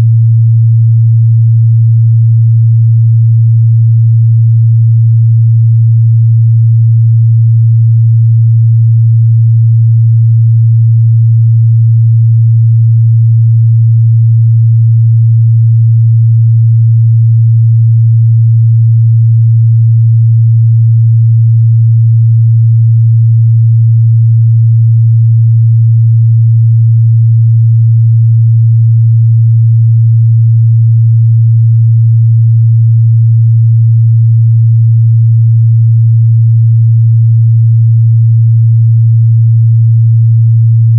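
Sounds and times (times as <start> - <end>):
low sine-wave test tone: 0.0 - 40.9.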